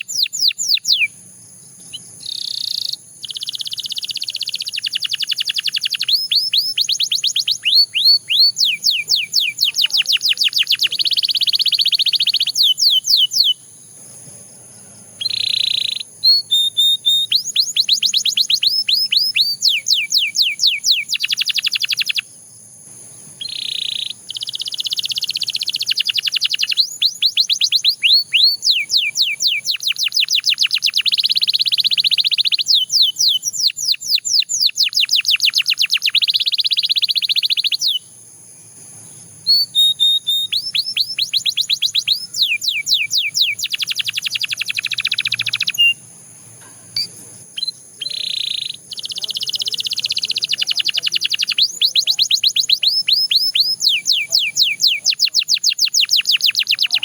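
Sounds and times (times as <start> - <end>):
faint high hiss: 0.0 - 28.0, 35.2 - 57.0
canary singing: 0.0 - 38.3, 38.9 - 57.0.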